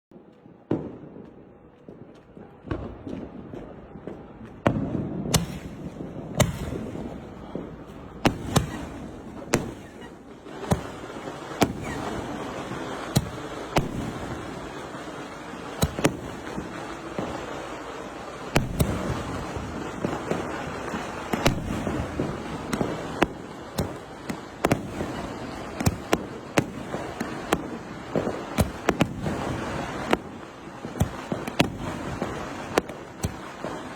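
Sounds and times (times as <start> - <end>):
fireworks bangs: 0.4 - 33.9.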